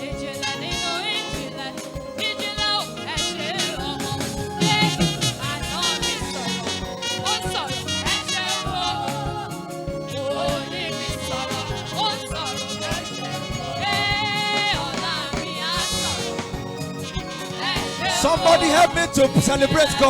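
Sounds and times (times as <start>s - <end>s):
live band accompaniment: 0.0s - 20.0s
voices singing gospel song: 0.0s - 20.0s.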